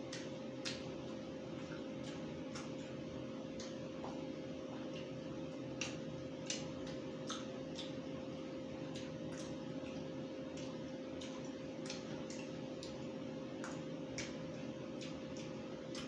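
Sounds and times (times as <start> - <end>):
chewing clicks and smacks: 0.0 - 16.0
steady background hum: 0.0 - 16.0.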